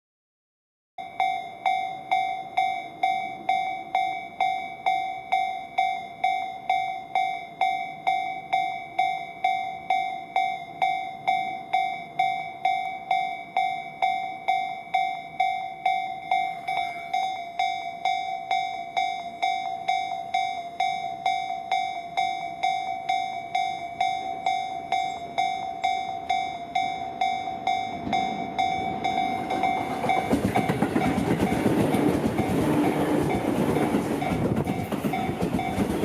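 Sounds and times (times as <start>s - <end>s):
level crossing bell ringing: 1.0s - 36.0s.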